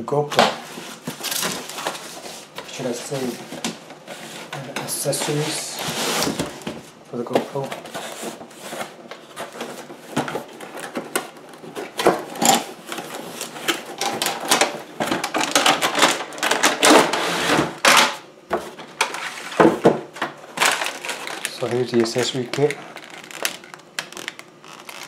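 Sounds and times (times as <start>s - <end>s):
packaging rustling and crinkling: 0.6s - 17.1s, 20.4s - 25.0s.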